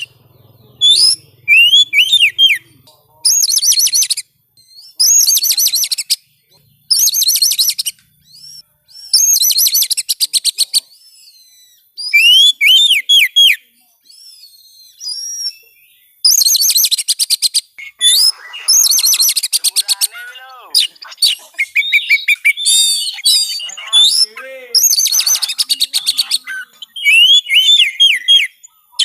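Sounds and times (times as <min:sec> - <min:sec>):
falling whistled bird notes: 0:00.0 - 0:02.6, 0:03.2 - 0:29.0
bird song chattering: 0:00.0 - 0:29.0.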